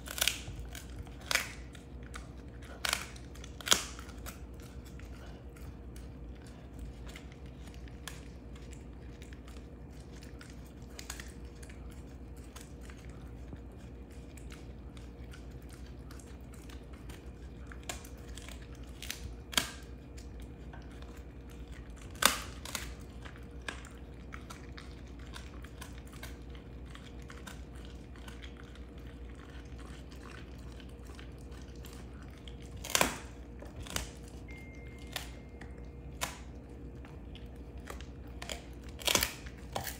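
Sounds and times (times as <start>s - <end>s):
dog crunching a bone: 0.0s - 39.9s
steady low hum: 0.0s - 39.9s.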